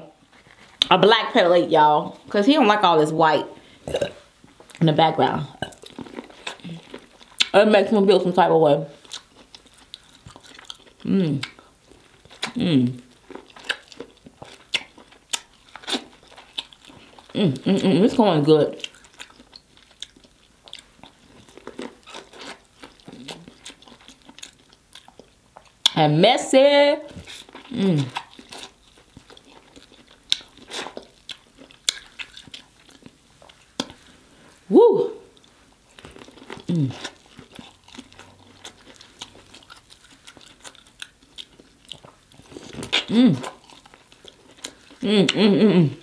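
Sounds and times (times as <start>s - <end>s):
person eating corn wetly: 5.6s - 7.5s, 9.0s - 25.9s, 27.2s - 34.4s, 35.2s - 46.0s.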